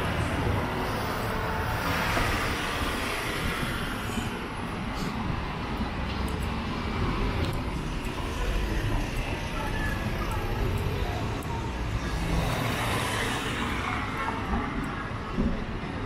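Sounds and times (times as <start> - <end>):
passing traffic rumble: 0.0 - 16.0.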